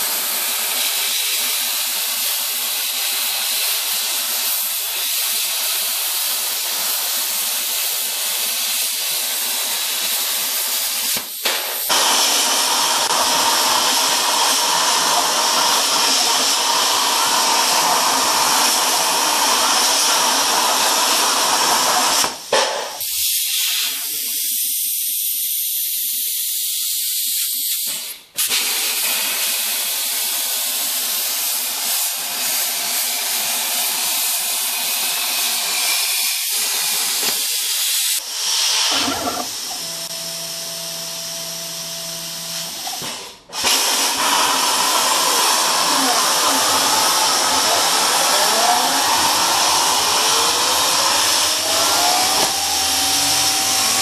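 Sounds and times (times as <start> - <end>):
plasma cutter hissing: 0.0 - 54.0.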